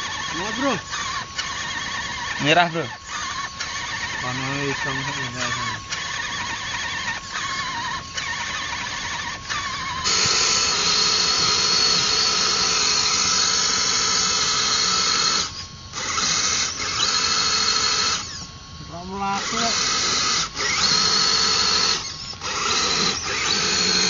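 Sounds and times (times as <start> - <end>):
electric motors whining: 0.0 - 24.0
high whine with hiss: 0.0 - 24.0.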